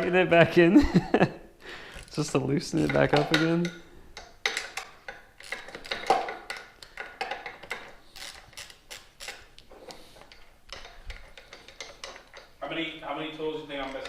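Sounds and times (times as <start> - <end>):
metal tools clinking: 1.9 - 14.0.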